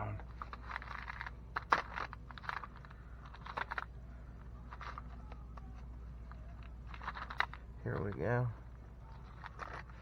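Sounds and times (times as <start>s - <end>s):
small parts clicking and rattling: 0.2s - 10.0s.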